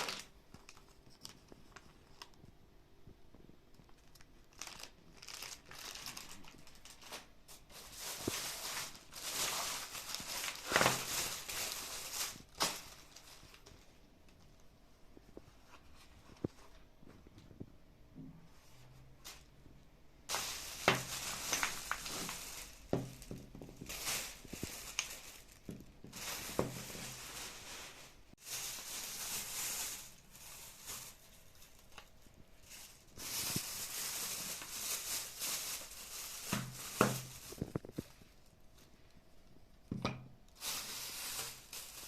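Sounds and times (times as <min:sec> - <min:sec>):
packaging rustling and crinkling: 0:00.0 - 0:02.5, 0:03.3 - 0:14.6, 0:20.3 - 0:39.2, 0:40.6 - 0:42.0.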